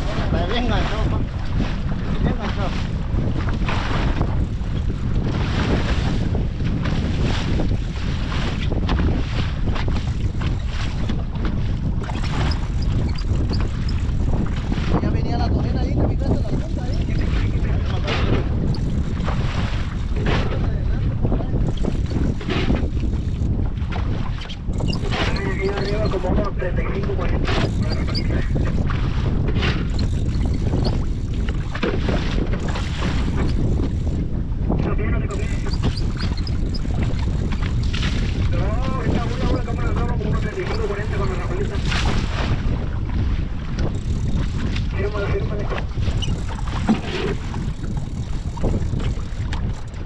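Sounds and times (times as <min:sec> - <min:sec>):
waves washing around boat: 0:00.0 - 0:50.0
wind blowing across microphone: 0:00.0 - 0:50.0.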